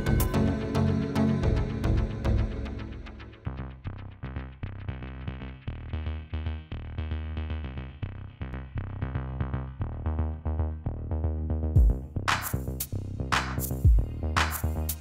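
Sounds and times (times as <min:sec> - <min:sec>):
electronic music with heavy bass: 0:00.0 - 0:15.0.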